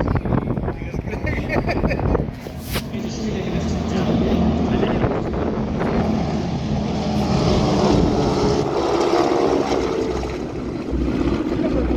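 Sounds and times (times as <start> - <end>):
propeller planes droning past: 0.8 - 11.9.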